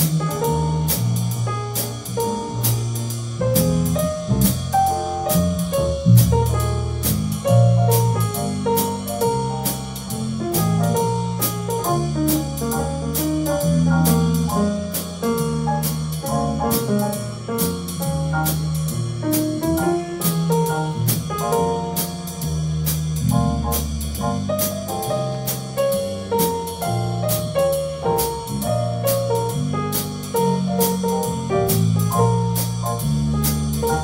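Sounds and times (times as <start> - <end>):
drum kit cymbals: 0.0 - 34.0
grand piano: 0.0 - 34.0
low bass line: 0.0 - 34.0.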